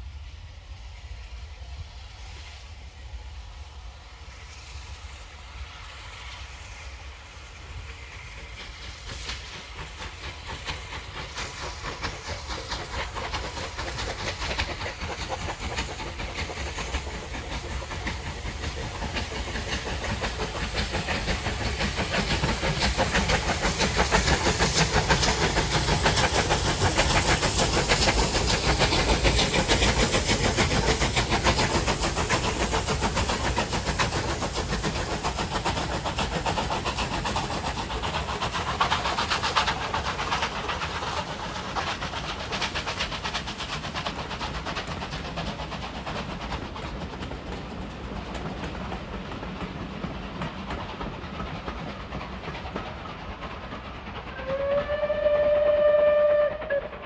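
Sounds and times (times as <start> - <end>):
hissing steam: 0.0 - 57.0
steam locomotive exhaust beat: 0.0 - 57.0.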